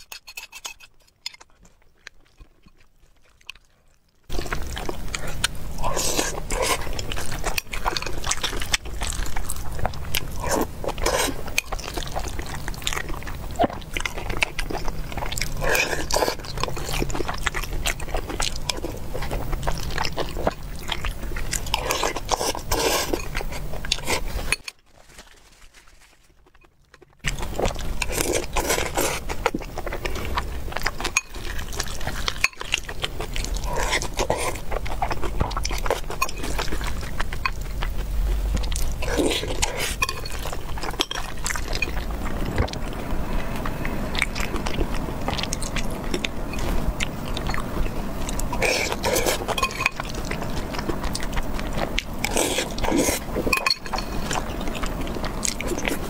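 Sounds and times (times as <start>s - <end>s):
chewing and smacking: 0.0s - 25.4s, 26.1s - 56.0s.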